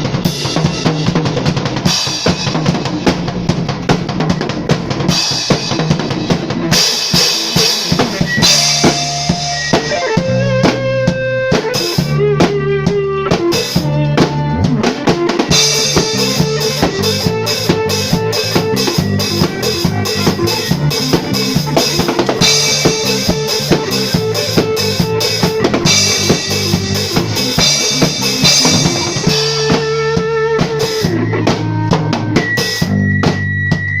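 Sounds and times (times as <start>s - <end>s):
low bass notes: 0.0s - 6.8s, 8.0s - 34.0s
drum kit playing a beat: 0.0s - 34.0s
mid-range instrument tones: 0.0s - 34.0s.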